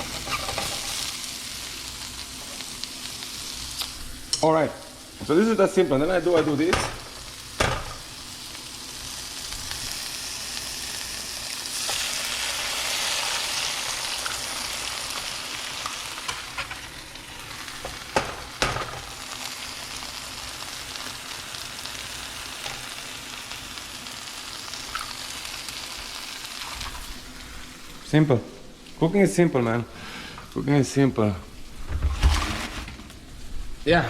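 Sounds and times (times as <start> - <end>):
vegetables sizzling in a frying pan: 0.0 - 29.0.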